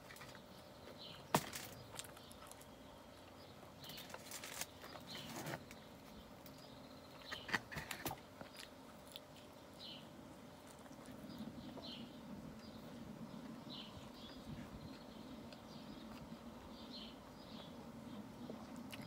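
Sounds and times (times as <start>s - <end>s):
eating sounds: 0.0s - 5.8s, 7.1s - 19.0s.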